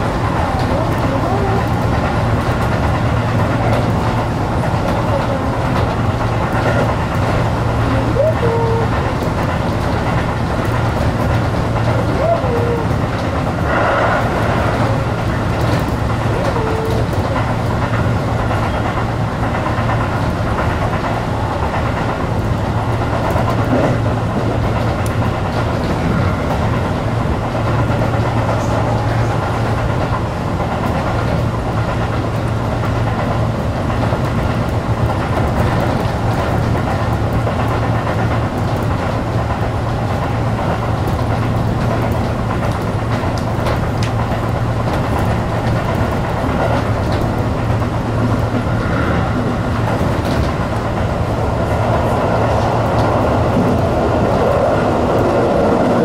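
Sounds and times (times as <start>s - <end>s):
rush of rail noise: 0.0s - 56.0s
train motors and wheels rumbling: 0.0s - 56.0s.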